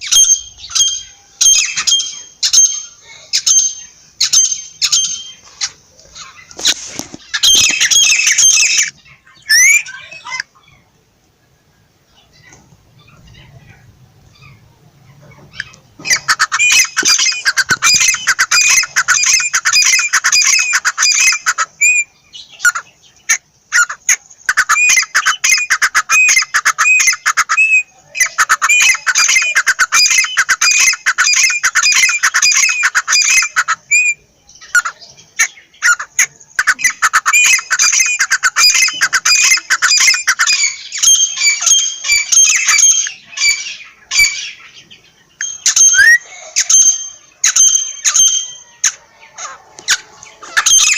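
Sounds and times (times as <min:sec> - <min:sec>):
francolin calling shrilly: 0:00.0 - 0:10.4, 0:15.6 - 0:50.9.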